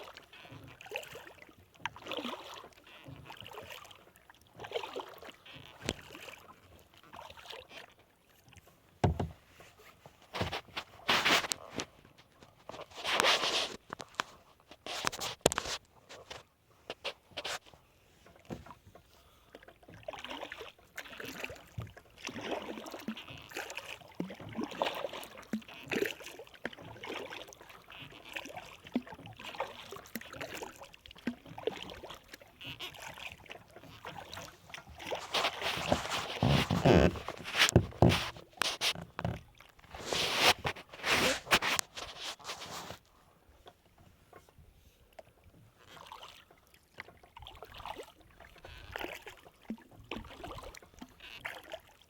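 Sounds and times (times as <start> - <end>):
paddle splashing in water: 0.0 - 52.0.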